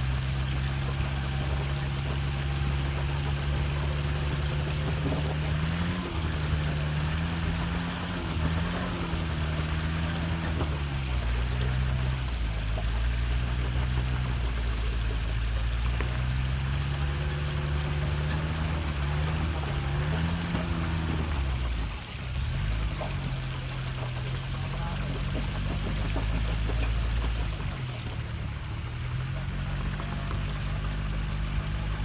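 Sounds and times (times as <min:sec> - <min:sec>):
engine running hard: 0:00.0 - 0:32.0
rushing water: 0:00.0 - 0:32.0.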